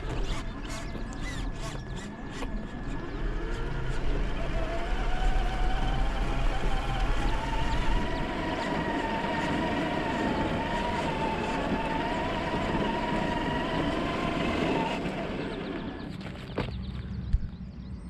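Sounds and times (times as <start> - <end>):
electric motor whining: 0.0 - 16.5.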